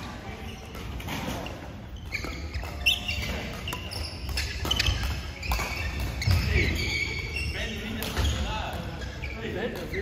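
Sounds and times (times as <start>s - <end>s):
rackets striking shuttlecock: 0.0s - 9.1s
shoes squeaking on court: 0.0s - 10.0s.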